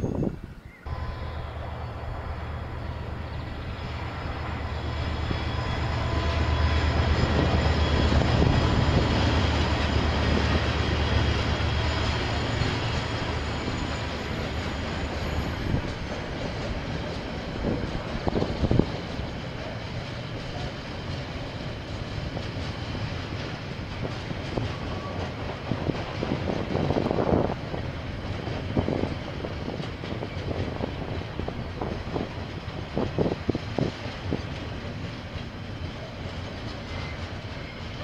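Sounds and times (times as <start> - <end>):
diesel train engine hum: 0.1 - 38.0
train wheels on rails: 0.9 - 38.0.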